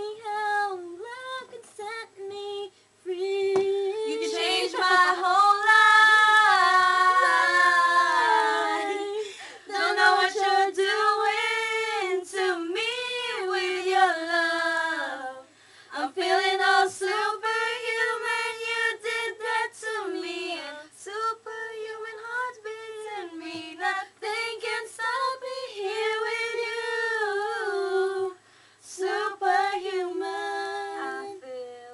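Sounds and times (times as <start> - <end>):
girls singing in unison: 0.0 - 31.9.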